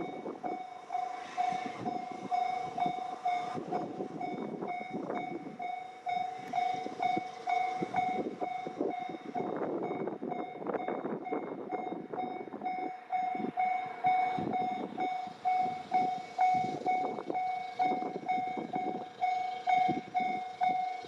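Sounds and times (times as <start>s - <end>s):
level crossing warning bell: 0.0s - 21.0s
passing train rattling: 0.0s - 21.0s.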